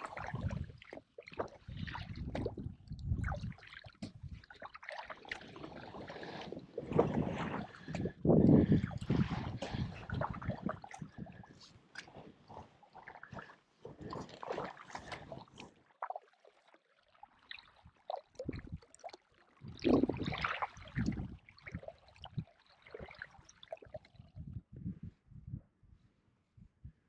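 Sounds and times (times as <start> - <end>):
paddle splashing against kayak hull: 0.0 - 24.2.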